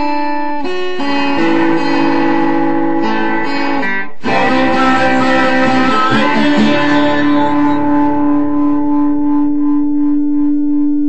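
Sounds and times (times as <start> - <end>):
low guitar note droning: 0.0 - 11.0
strummed guitar chord: 0.0 - 11.0.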